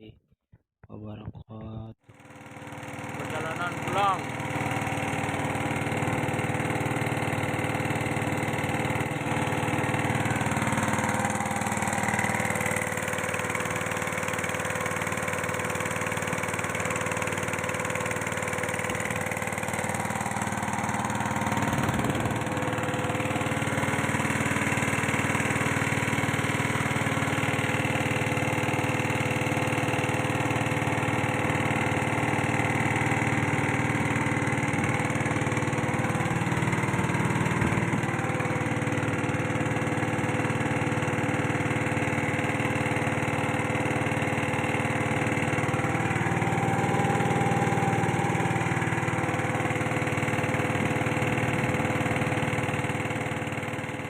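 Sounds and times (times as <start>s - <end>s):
small engine running: 2.0s - 54.0s.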